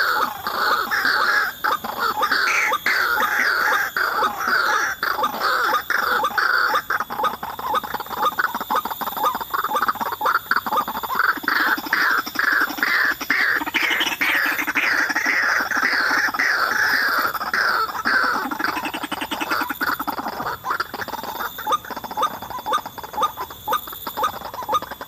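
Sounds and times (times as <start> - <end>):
lower pulsing bird call: 0.0 - 25.0
waterhens harsh calls: 0.0 - 25.0.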